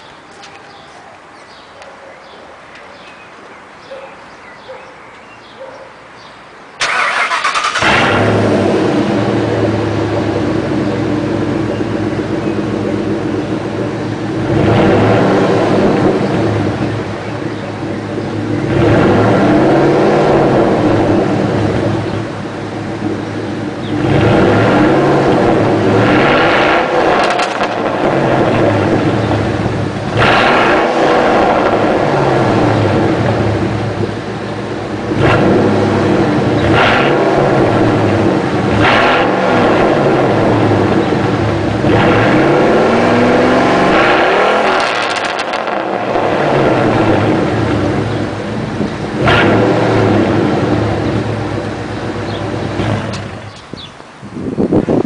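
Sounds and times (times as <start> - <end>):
truck engine starting: 6.8 - 53.9
engine idling and revving: 6.8 - 55.0.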